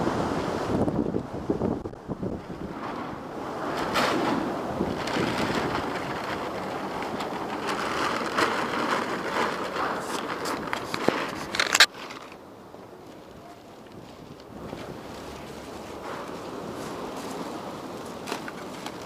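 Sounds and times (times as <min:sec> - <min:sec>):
strong wind: 0:00.0 - 0:19.0
tent fabric rustling: 0:02.2 - 0:19.0.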